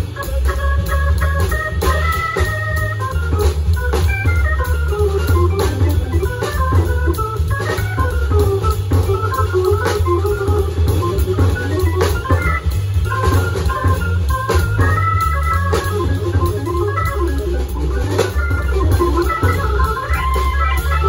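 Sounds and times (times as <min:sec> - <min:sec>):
drum kit with cymbals and snare: 0:00.0 - 0:21.0
organ playing jazz: 0:00.0 - 0:21.0.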